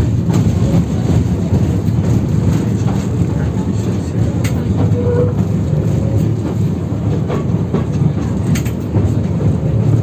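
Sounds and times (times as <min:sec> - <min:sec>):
rail joint clicks and knocks: 0:00.0 - 0:10.0
tram wheels rumbling on rail: 0:00.0 - 0:10.0.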